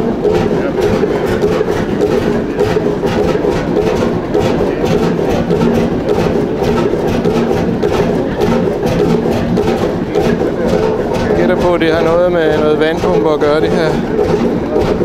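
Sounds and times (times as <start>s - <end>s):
stationary engine knocking: 0.0s - 15.0s.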